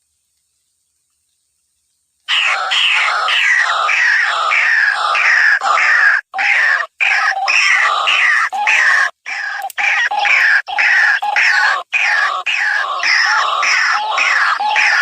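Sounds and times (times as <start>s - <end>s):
waterhen calling: 2.3s - 15.0s.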